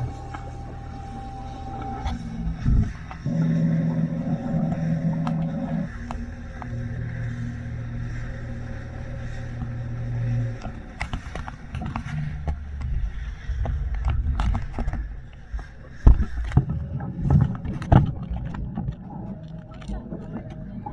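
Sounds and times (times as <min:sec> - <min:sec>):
boat motor running: 0:00.0 - 0:20.9.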